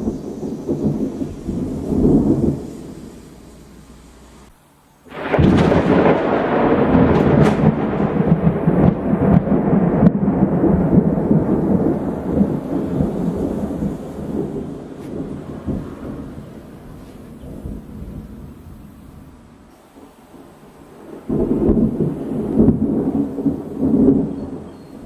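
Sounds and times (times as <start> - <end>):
sharp thunder crackles: 0.0 - 4.4, 5.1 - 25.0
thunderclap rumbling: 0.0 - 25.0.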